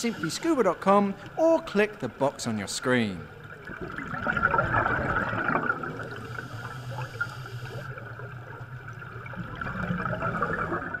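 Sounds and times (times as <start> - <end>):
underwater bubbling and gurgling: 0.0 - 11.0.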